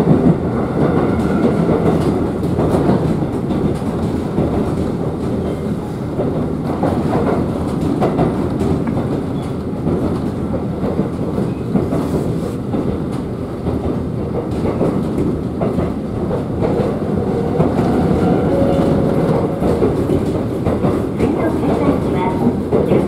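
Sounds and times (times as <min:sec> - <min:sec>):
clickety-clack over rail joints: 0:00.0 - 0:23.0
train wheels rumbling on rails: 0:00.0 - 0:23.0.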